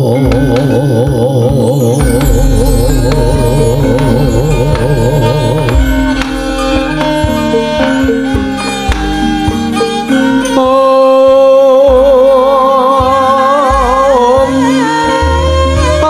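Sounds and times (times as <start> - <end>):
woman singing long wavering notes: 0.0 - 8.3, 10.3 - 16.0
gamelan ensemble playing: 0.0 - 16.0.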